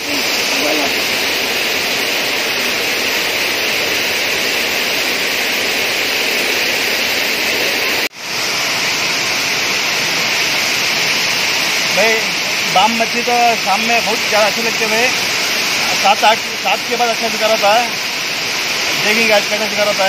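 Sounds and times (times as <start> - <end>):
water rushing over a weir: 0.0 - 20.0.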